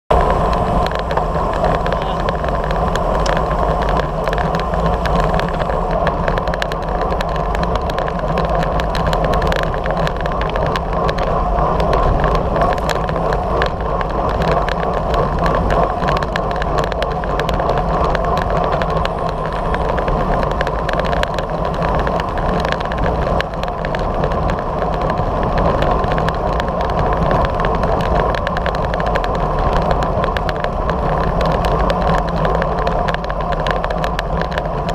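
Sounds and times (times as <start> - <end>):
bike clicks and rattles: 0.1 - 34.9
road rumble: 0.1 - 34.9
wind noise: 0.1 - 34.9.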